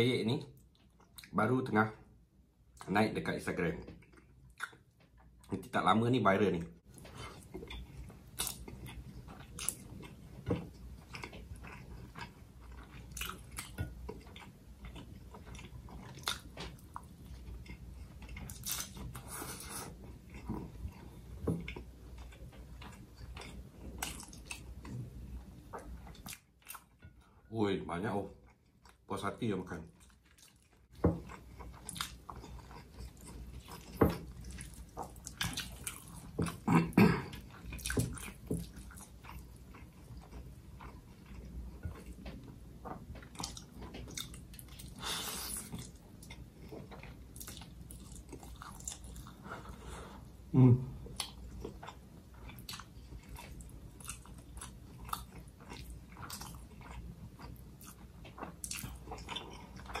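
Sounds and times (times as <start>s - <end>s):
chewing and mouth smacks: 3.9s - 5.6s, 6.9s - 25.0s, 25.6s - 27.1s, 30.0s - 49.8s, 51.0s - 60.0s.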